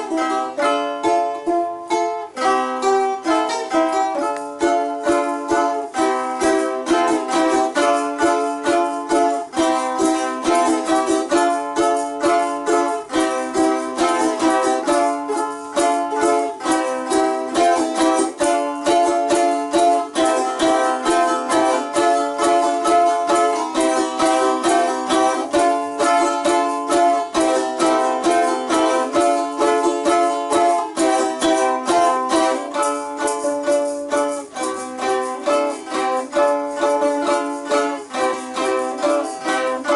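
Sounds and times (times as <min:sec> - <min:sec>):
balalaika strumming and plucking: 0:00.0 - 0:39.9.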